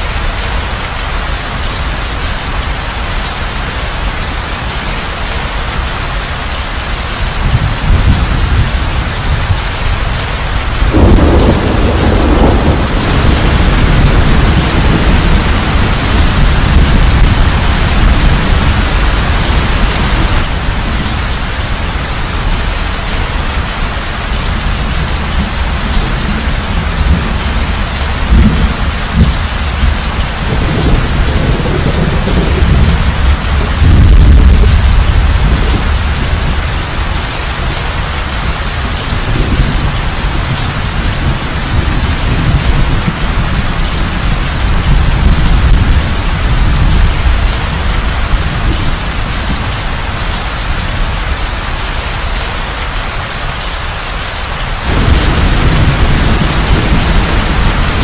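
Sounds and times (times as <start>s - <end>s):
heavy rain falling: 0.0s - 58.0s
thunder rumbling: 5.8s - 50.2s, 54.8s - 58.0s.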